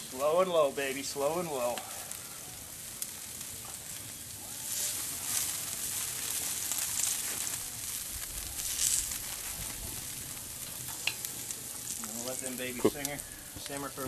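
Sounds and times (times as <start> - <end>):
chicken sizzling on a grill: 0.0 - 14.0
embers crackling: 0.0 - 14.0.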